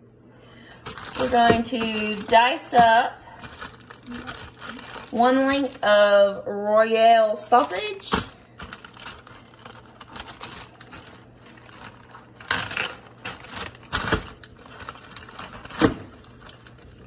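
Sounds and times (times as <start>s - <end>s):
plastic bag crinkling: 0.8s - 6.3s, 7.4s - 17.0s.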